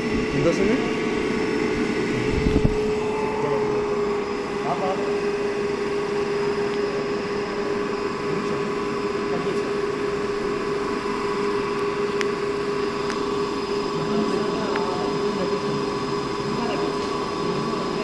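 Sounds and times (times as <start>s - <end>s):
electric motor humming and whining: 0.0s - 18.0s.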